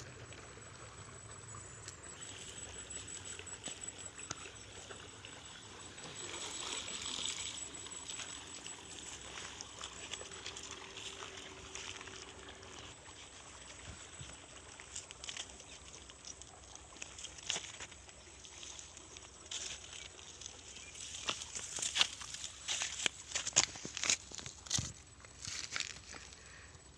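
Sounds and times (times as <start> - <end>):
stream water trickling and splashing: 0.0 - 26.9.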